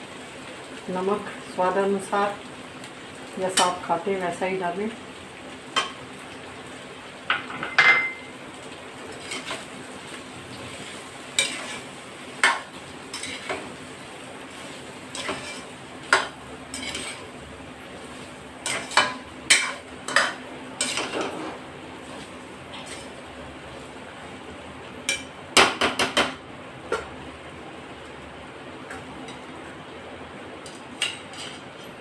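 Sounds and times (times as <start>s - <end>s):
faint frying sizzle: 0.0s - 32.0s.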